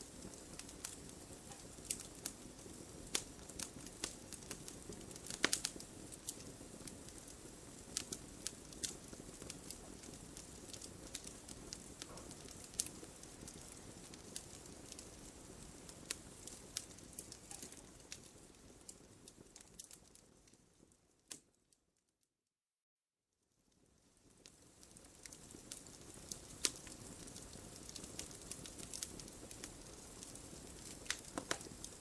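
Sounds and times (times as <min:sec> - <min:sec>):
logs crackling and popping: 0:00.0 - 0:21.5, 0:23.8 - 0:32.0.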